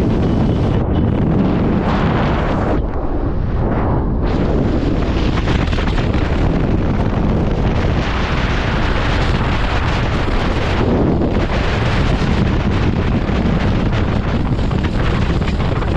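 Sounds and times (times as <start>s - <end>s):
strong wind on microphone: 0.0s - 15.9s.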